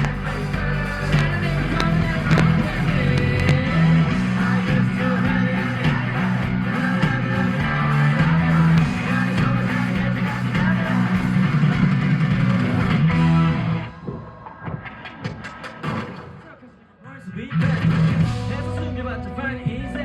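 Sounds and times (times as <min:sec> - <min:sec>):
live rock band playing: 0:00.0 - 0:16.1, 0:17.7 - 0:20.0.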